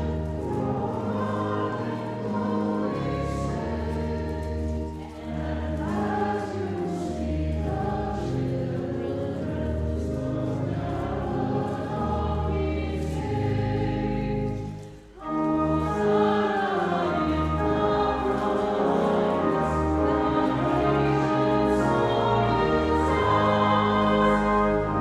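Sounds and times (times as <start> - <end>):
choir singing a hymn: 0.0 - 25.0
sustained low accompaniment: 0.0 - 25.0.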